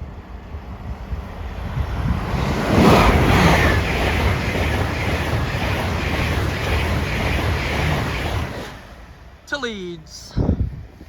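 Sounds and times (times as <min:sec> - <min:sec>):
passenger train passing at speed: 0:00.0 - 0:11.0.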